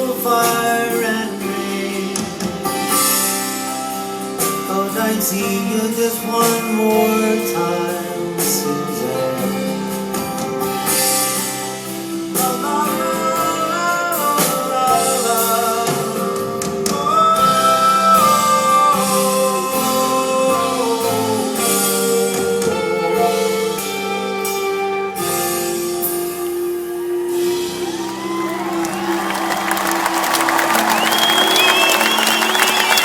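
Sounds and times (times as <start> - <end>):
live soft-rock band playing: 0.0 - 33.0.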